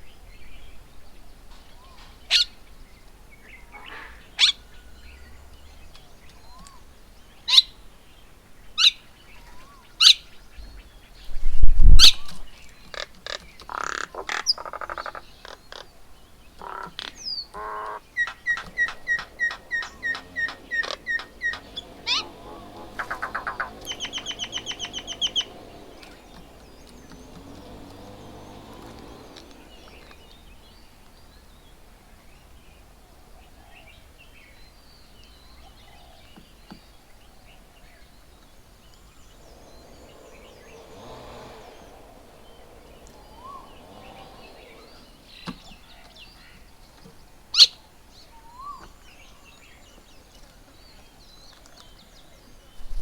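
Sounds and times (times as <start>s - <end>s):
birds chattering and chirping: 0.0s - 53.0s.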